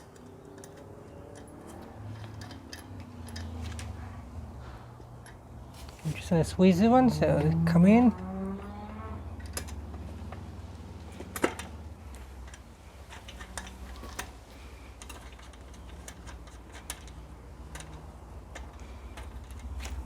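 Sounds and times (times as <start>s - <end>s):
metal parts clicking and tapping: 0.0s - 8.7s, 9.3s - 20.0s.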